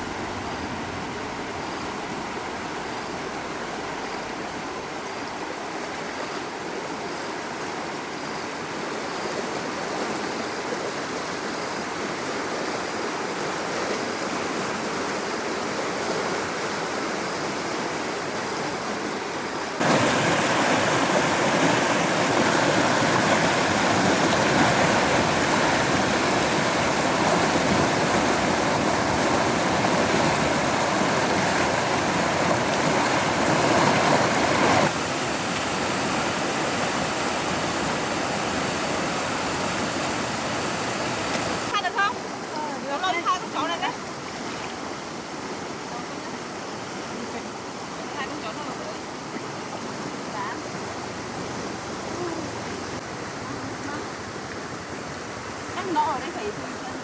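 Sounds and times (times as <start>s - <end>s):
rushing floodwater: 0.0s - 57.0s.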